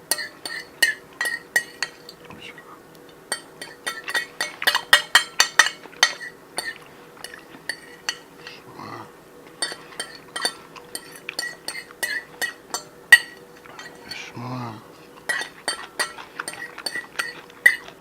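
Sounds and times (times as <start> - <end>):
cutlery clinking on a plate: 0.0 - 2.3, 3.2 - 8.6, 9.5 - 14.3, 15.2 - 18.0.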